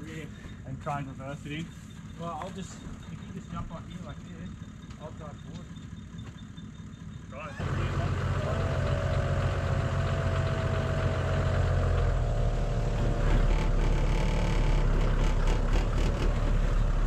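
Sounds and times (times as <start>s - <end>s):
four-wheel drive engine running: 0.0s - 17.0s.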